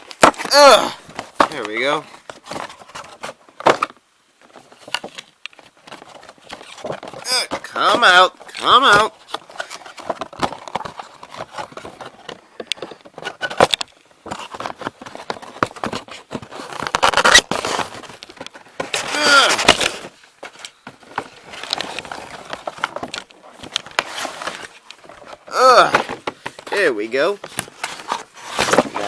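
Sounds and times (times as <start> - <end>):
packaging crinkling and snapping: 0.0 - 26.8, 27.4 - 29.0.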